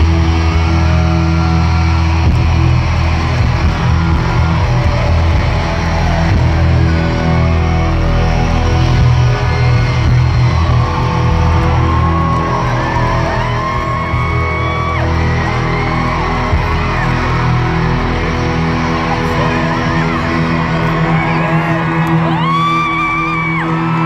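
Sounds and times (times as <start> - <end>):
crowd screaming and whooping: 0.0 - 24.0
live pop-punk band: 0.0 - 24.0.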